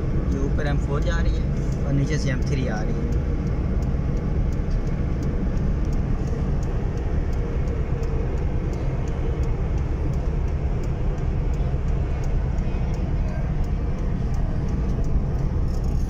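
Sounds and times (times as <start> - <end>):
car cabin road rumble: 0.0 - 16.0
faint high ticks: 0.2 - 16.0.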